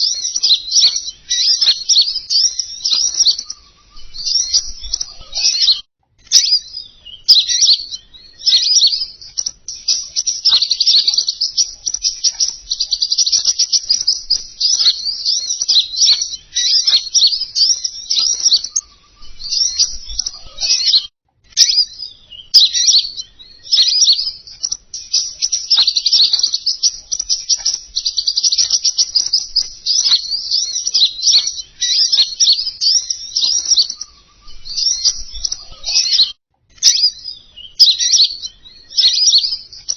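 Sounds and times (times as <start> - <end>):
songbird chattering twitter: 0.0 - 39.9.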